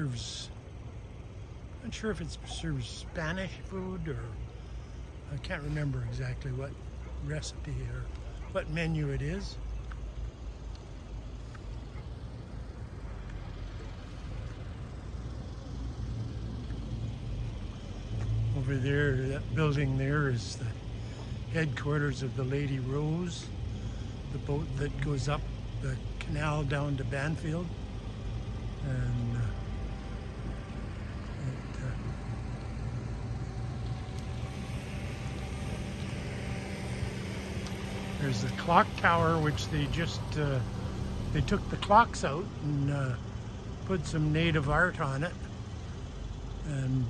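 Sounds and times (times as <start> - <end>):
motor vehicle engine rumbling: 0.0 - 47.0.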